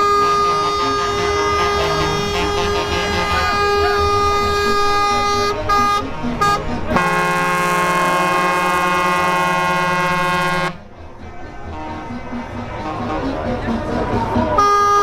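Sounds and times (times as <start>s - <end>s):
truck air horn blasts: 0.0s - 13.6s, 14.5s - 15.0s.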